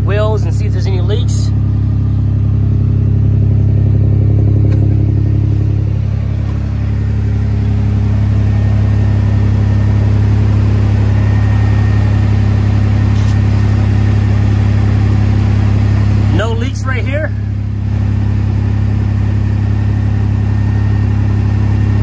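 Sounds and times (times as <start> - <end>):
truck engine idling through exhaust: 0.0 - 22.0.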